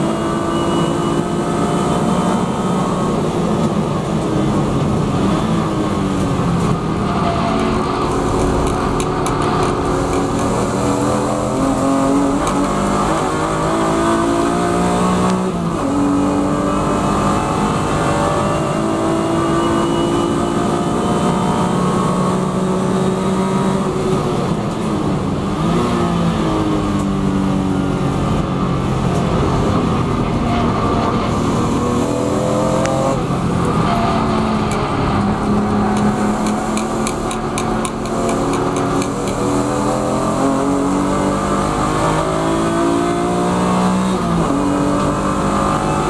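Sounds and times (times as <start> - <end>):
race car engine accelerating: 0.0 - 46.0.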